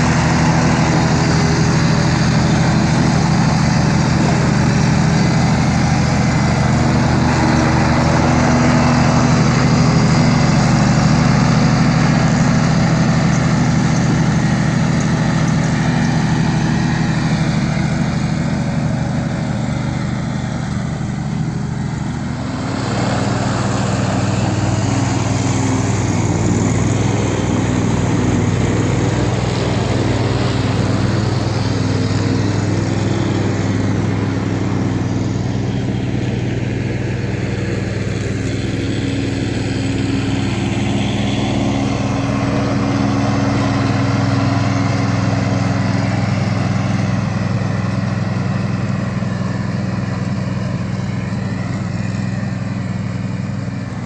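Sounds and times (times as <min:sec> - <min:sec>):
ride-on mower running: 0:00.0 - 0:54.0.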